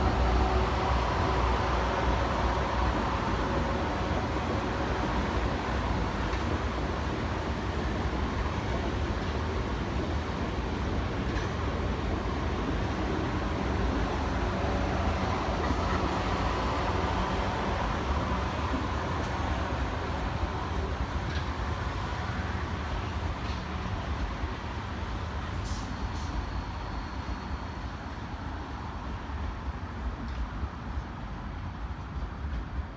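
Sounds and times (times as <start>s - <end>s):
train rail noise: 0.0s - 32.9s.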